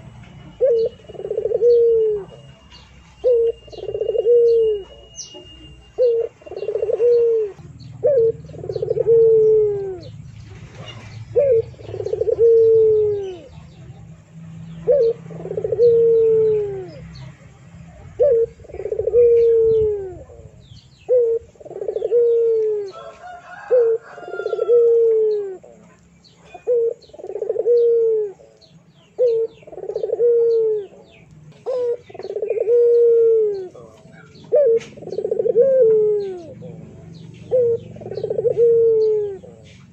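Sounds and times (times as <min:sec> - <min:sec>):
bird cooing: 0:00.0 - 0:39.9.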